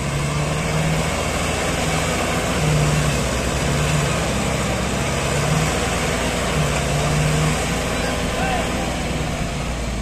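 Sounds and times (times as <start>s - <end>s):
tractor diesel engines labouring: 0.0s - 10.0s.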